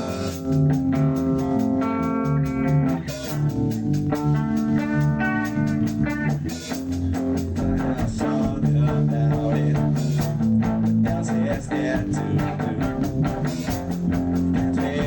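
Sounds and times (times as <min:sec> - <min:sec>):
bass guitar: 0:00.0 - 0:15.0
guitar playing held chords: 0:00.0 - 0:15.0
steady drum beat: 0:00.0 - 0:15.0.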